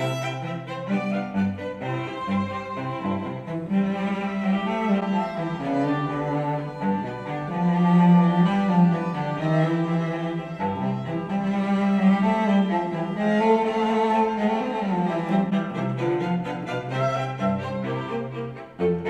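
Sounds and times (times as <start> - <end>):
classical music through speakers: 0.0 - 19.0.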